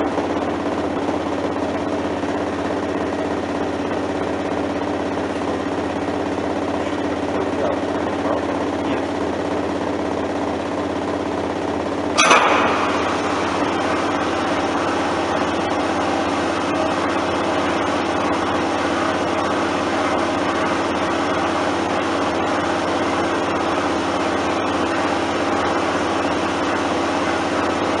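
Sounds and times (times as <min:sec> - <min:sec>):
vibratory machine running: 0:00.0 - 0:28.0.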